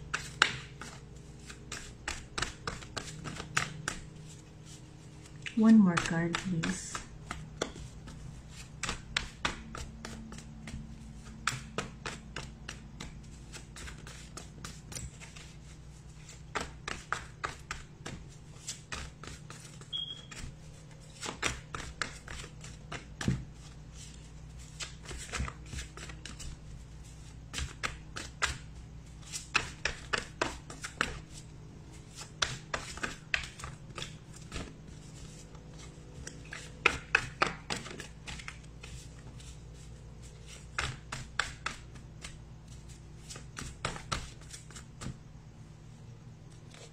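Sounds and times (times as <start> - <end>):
cards being shuffled: 0.1 - 45.2, 46.5 - 46.9.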